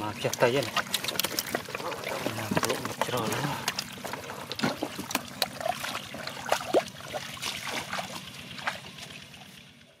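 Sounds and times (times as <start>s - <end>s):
feet wading through muddy water: 0.2s - 10.0s.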